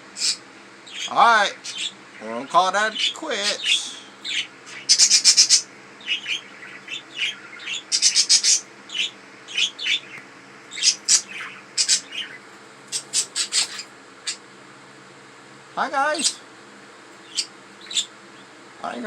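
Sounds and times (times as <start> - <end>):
budgies chirping and chattering: 0.0 - 14.5, 16.2 - 19.0.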